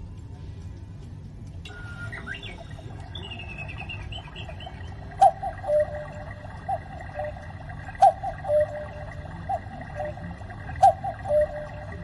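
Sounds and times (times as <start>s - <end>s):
recorded birdsong chirping: 1.7s - 12.0s.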